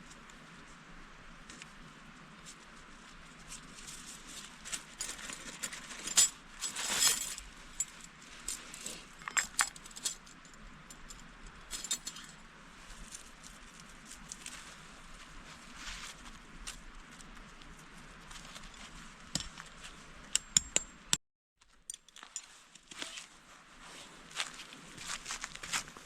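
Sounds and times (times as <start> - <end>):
rustling of handled objects: 2.4 - 20.2, 21.6 - 26.0.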